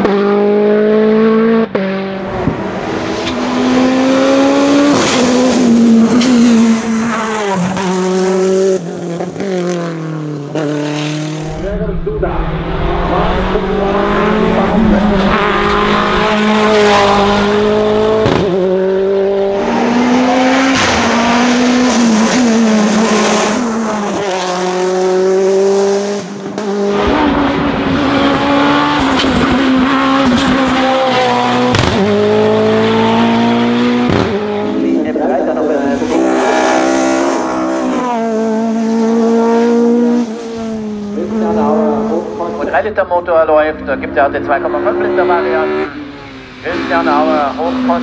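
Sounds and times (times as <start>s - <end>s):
race car engine at full throttle: 0.0s - 48.0s.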